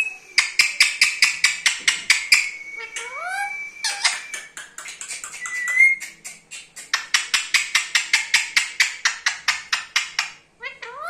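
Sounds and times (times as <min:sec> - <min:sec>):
parakeet whistling: 0:00.0 - 0:11.0.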